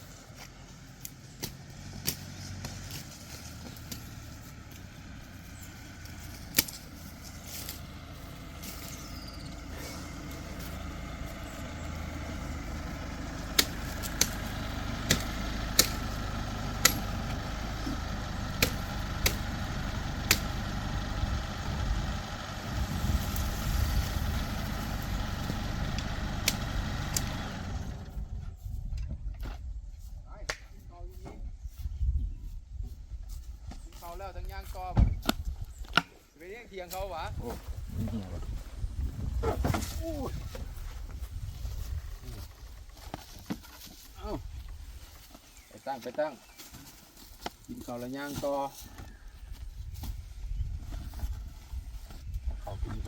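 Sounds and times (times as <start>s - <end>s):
vehicle engine rumble: 0.0s - 53.0s.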